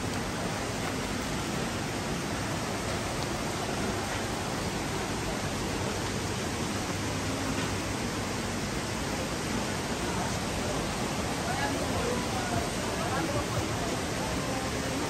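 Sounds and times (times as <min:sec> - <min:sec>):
mountain stream rushing over rocks: 0:00.0 - 0:15.0.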